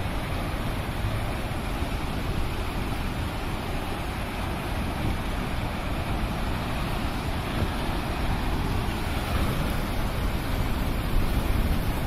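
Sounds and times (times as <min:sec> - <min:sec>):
heavy surf breaking on rocks: 0:00.0 - 0:12.0.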